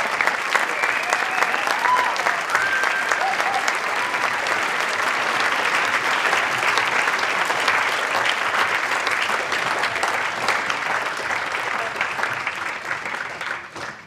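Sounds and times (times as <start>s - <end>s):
audience clapping and cheering: 0.0s - 14.0s.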